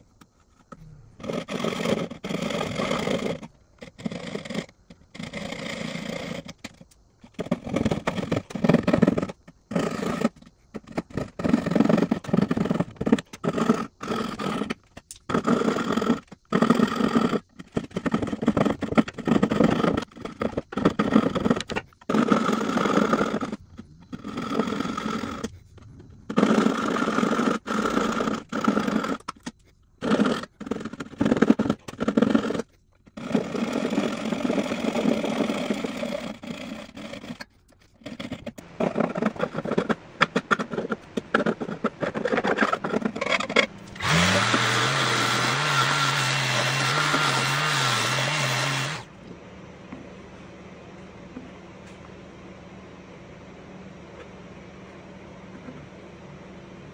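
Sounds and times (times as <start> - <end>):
hand saw cutting wood: 0.0 - 25.6, 26.3 - 49.1
power tool motor spinning: 0.0 - 49.2.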